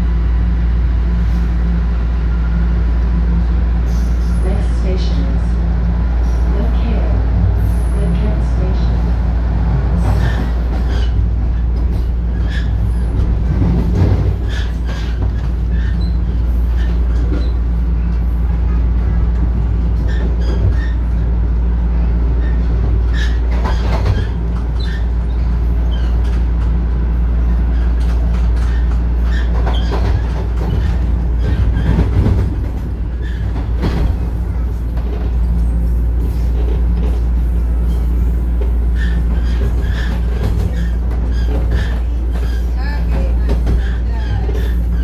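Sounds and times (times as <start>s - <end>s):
subway train running: 0.0s - 45.0s.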